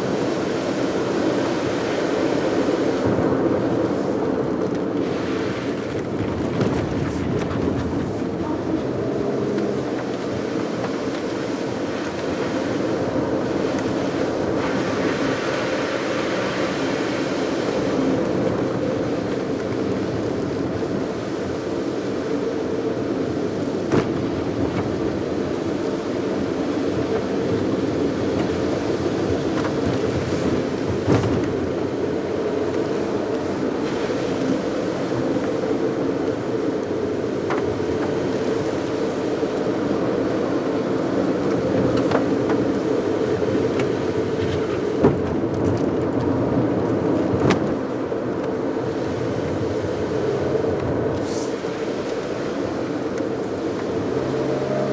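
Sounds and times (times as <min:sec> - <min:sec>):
car road and engine noise: 0:00.0 - 0:54.9.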